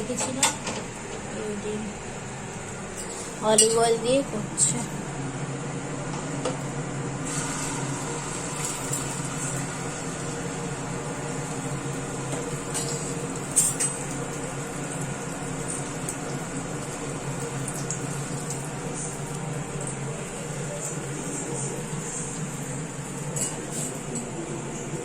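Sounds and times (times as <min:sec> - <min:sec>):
mechanical hum: 0:00.0 - 0:25.0.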